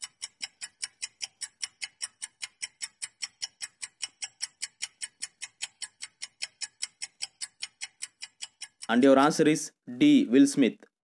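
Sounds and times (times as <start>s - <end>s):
clock ticking fast: 0.0s - 9.8s.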